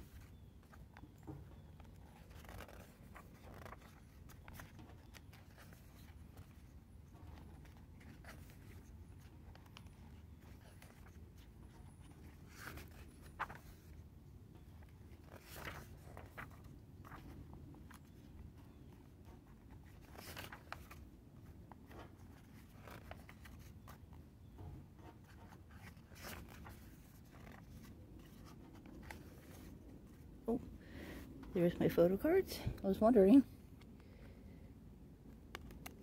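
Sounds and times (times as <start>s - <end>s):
photo book pages turning: 0.0s - 31.9s, 35.2s - 36.0s.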